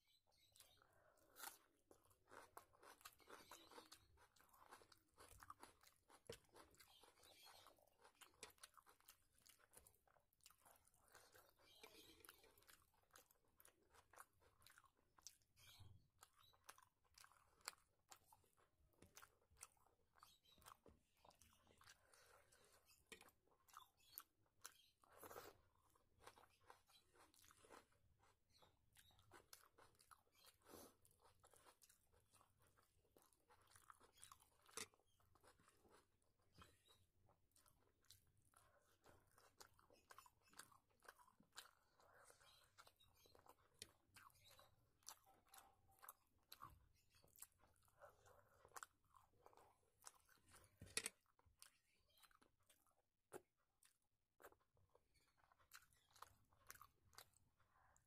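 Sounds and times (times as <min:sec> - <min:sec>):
person chewing: 0:00.4 - 0:58.0.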